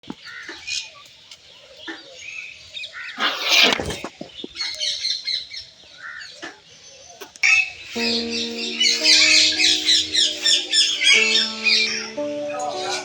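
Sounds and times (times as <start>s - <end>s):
birds chirping and calling: 0.2s - 13.0s.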